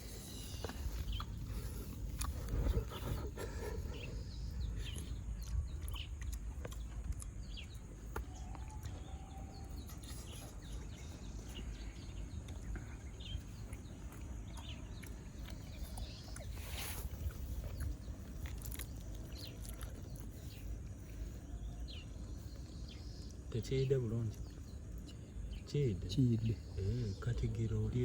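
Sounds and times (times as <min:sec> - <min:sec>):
bird chirps: 0:00.0 - 0:28.0.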